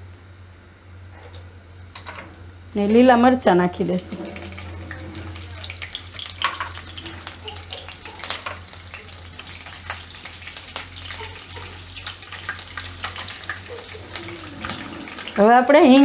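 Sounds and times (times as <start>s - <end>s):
seeds sizzling in hot oil: 1.8s - 16.0s.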